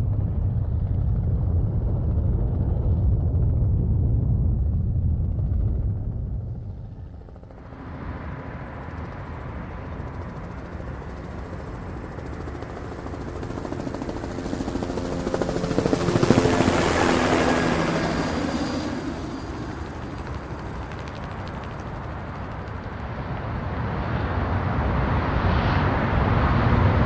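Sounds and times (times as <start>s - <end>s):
helicopter rotor noise: 0.0s - 25.2s.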